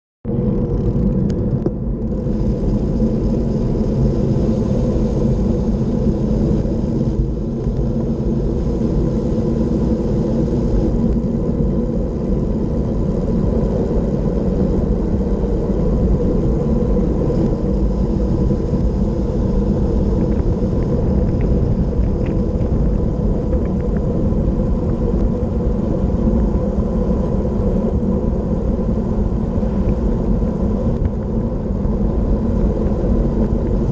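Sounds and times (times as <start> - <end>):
wind rushing over microphone: 0.2 - 33.9.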